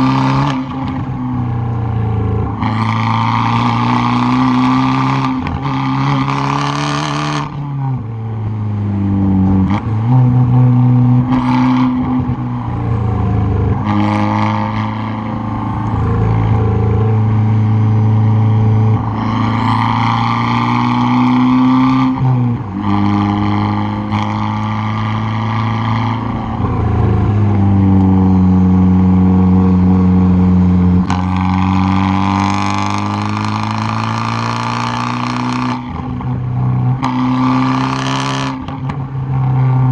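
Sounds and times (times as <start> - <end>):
car exhaust accelerating: 0.0 - 39.9
exhaust crackle: 0.0 - 39.9.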